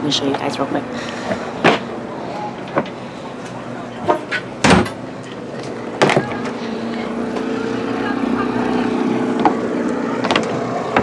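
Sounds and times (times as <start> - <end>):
motor engine running: 0.8 - 11.0.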